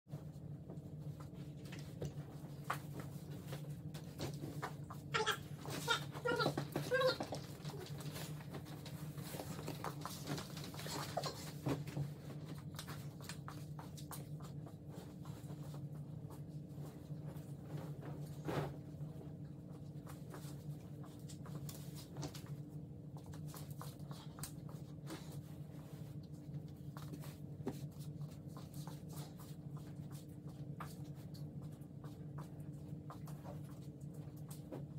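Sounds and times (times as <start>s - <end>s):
low room hum: 0.1s - 34.9s.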